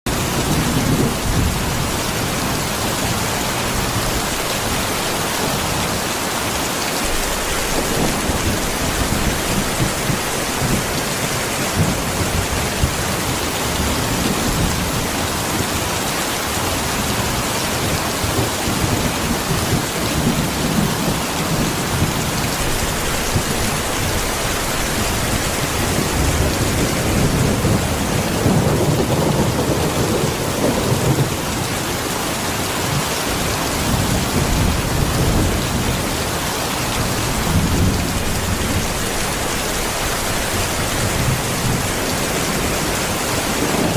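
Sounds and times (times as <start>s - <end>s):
heavy rain pouring: 0.1s - 43.9s.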